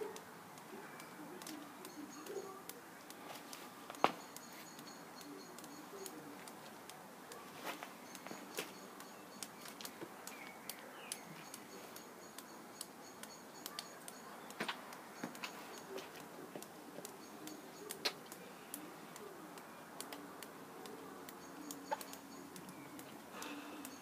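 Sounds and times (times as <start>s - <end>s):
sharp ticks and clicks: 0.1s - 3.2s, 3.9s - 7.4s, 8.0s - 24.0s.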